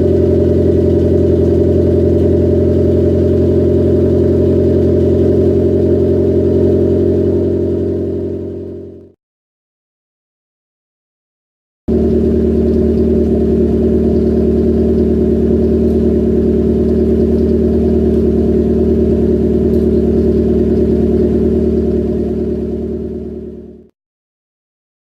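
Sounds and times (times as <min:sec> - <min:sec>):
car engine droning exhaust: 0:00.0 - 0:09.1, 0:11.9 - 0:23.9.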